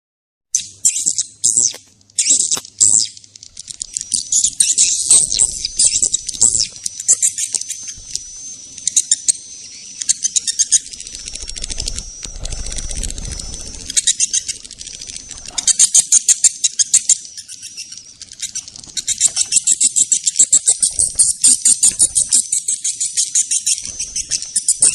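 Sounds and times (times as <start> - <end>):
swiftlet chittering trills: 0.6 - 24.9
thin high steady tone: 2.4 - 22.9.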